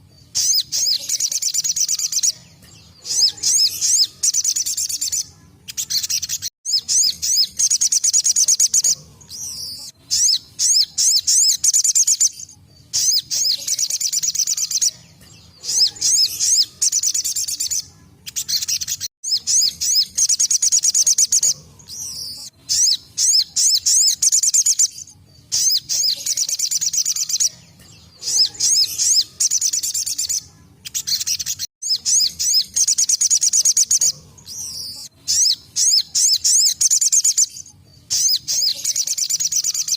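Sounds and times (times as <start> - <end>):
bird high trilling chirps: 0.0 - 39.9.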